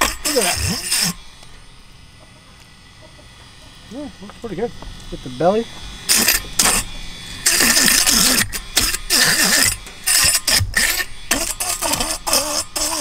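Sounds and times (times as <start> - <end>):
electric fish scaler whirring: 0.0 - 13.0.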